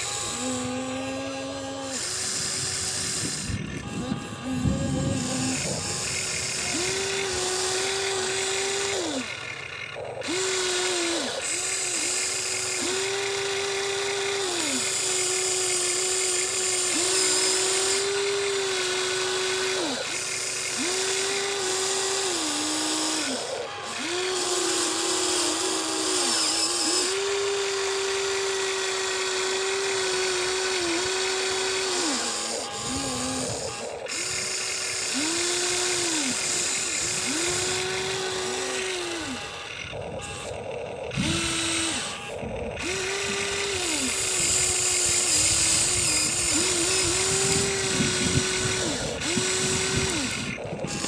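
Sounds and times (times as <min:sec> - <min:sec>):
toy excavator motors whining: 0:00.0 - 0:51.0.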